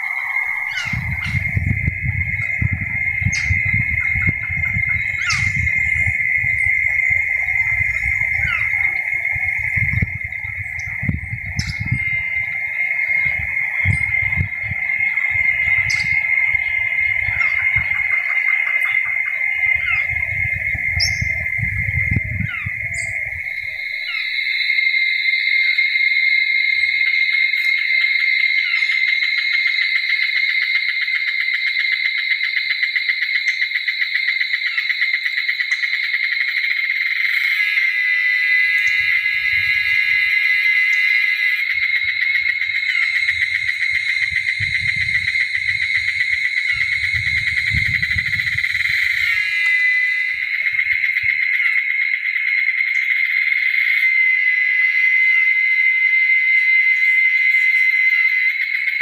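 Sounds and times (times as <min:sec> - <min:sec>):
shrill insect chorus: 0:00.0 - 0:59.0.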